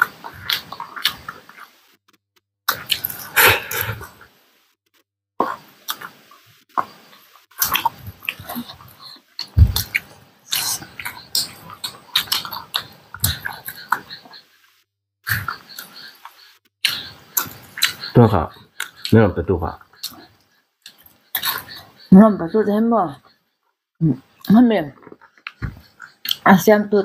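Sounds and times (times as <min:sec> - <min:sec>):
crunching and chewing food: 0:00.0 - 0:04.1, 0:05.4 - 0:14.4, 0:15.3 - 0:22.1, 0:24.2 - 0:26.5.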